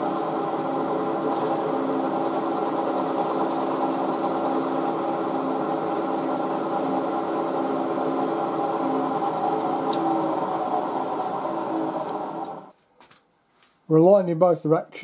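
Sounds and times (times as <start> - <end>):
milling machine hum: 0.0 - 12.7.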